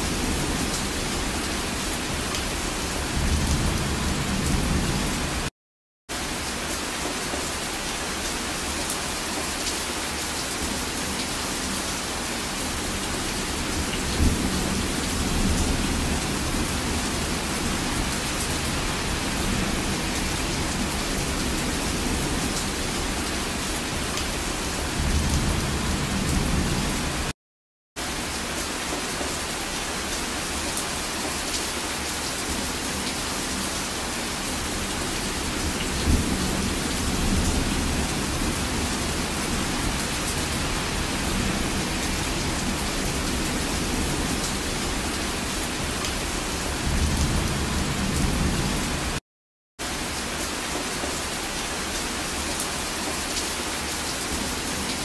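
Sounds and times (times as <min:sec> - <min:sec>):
rain falling: 0:00.0 - 0:05.5, 0:06.1 - 0:27.3, 0:28.0 - 0:49.2, 0:49.8 - 0:55.0.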